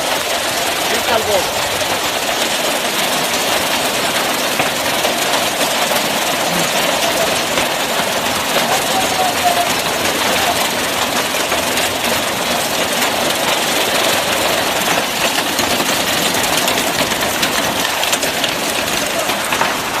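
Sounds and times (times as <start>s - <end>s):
heavy hail and rain: 0.0s - 20.0s.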